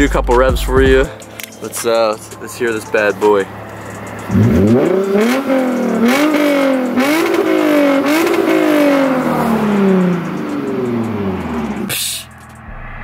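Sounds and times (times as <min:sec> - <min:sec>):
car engine revving: 0:01.8 - 0:13.0.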